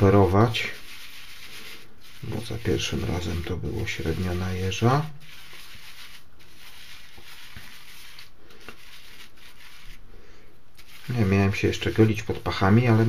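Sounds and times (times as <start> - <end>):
shaving brush rubbing lather: 0.0 - 10.0, 10.8 - 13.0.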